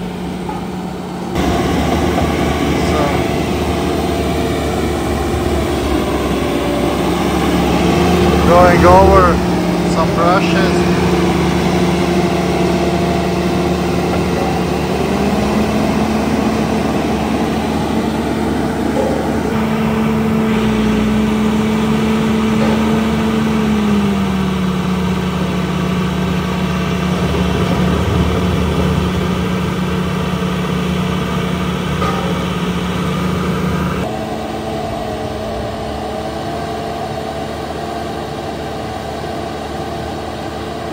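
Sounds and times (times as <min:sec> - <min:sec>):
engine running under load: 0:00.0 - 0:40.9.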